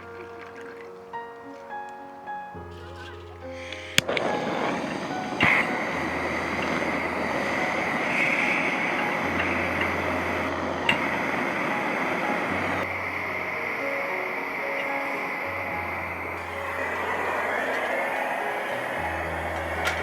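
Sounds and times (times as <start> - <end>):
faint whistling tone: 0.0 - 20.0
pressure burner rushing: 2.8 - 20.0.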